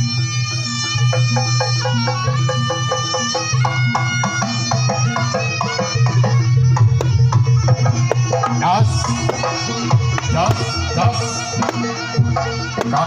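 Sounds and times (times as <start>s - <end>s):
rapid drum and percussion beats: 0.0s - 13.0s
reedy wind instrument melody: 0.0s - 13.0s.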